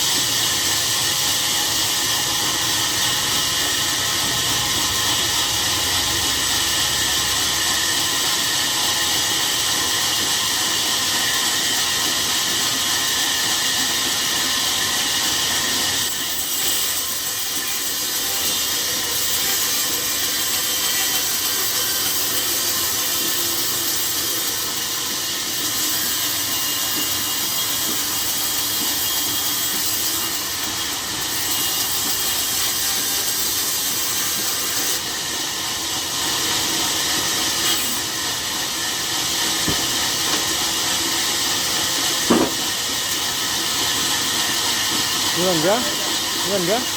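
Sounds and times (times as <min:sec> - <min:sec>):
saw cutting through log: 0:00.0 - 0:46.9.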